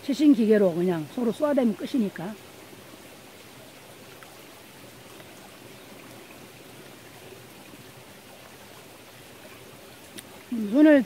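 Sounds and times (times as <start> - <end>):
stream flowing over rocks: 0.0 - 11.0.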